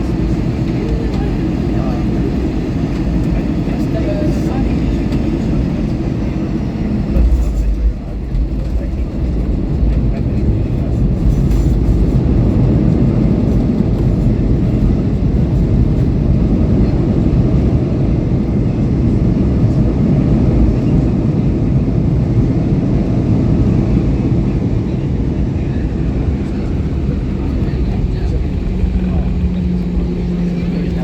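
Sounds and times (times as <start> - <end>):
airliner engines rumbling: 0.0 - 31.0.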